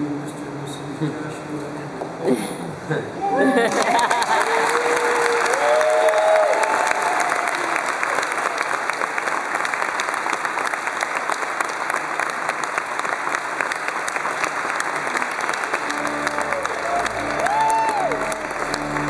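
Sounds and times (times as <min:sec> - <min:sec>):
crowd clapping: 0:03.5 - 0:19.0.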